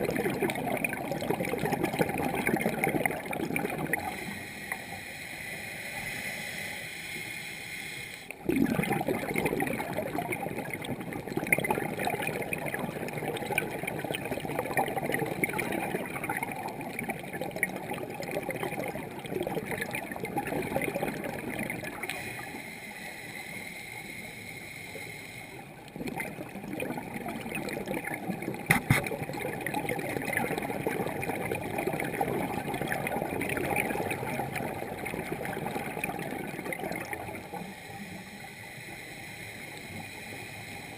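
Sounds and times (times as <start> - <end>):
underwater bubbles rushing and gurgling: 0.0 - 6.5, 8.2 - 24.3, 24.9 - 40.9.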